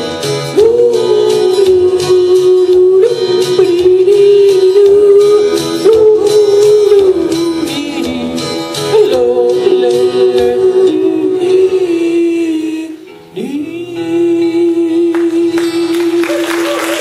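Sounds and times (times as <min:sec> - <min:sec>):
backing music: 0:00.0 - 0:17.0
man yodeling: 0:00.5 - 0:17.0.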